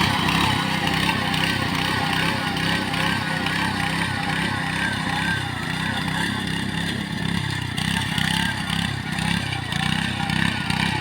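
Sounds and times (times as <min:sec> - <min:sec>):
harvesting machine engine running: 0:00.0 - 0:11.0.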